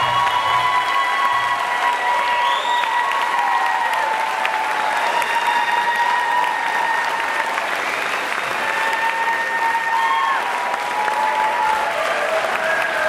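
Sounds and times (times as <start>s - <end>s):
audience applauding: 0.0s - 13.0s
high held whoops: 0.0s - 13.0s.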